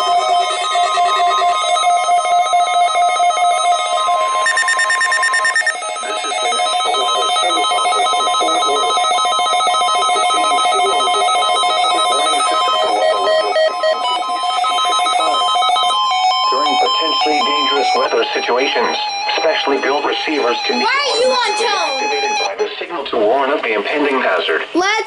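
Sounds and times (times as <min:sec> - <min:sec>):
radio alert tones beeping: 0:00.0 - 0:22.8.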